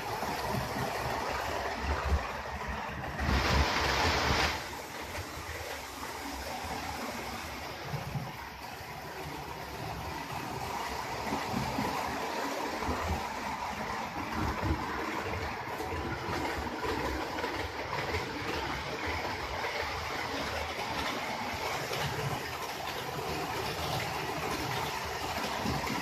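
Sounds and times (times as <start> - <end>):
model train wheels whirring: 0.0 - 26.0
faint clicking over rail joints: 4.1 - 26.0.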